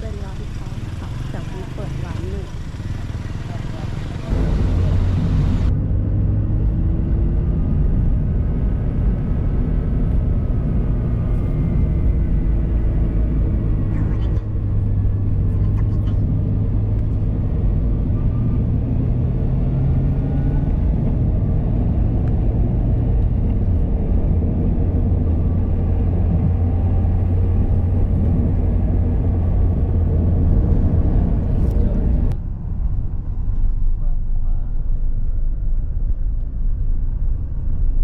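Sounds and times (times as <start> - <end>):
vehicle engine and road rumble: 0.0 - 38.0.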